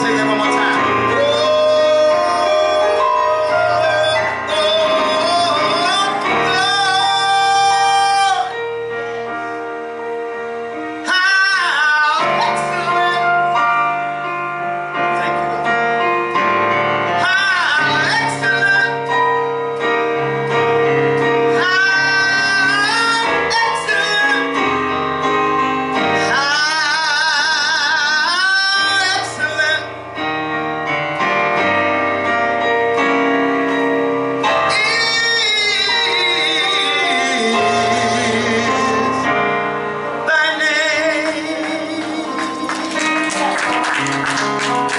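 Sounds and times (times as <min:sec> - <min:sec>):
sustained instrumental accompaniment: 0:00.0 - 0:44.9.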